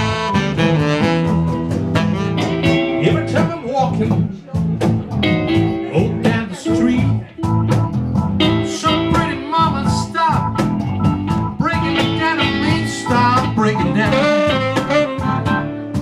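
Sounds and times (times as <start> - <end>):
live blues band playing: 0.0 - 16.0.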